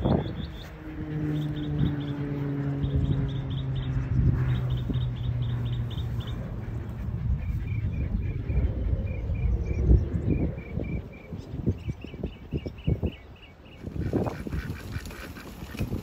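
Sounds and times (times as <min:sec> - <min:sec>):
continuous low rumble: 0:00.0 - 0:16.0.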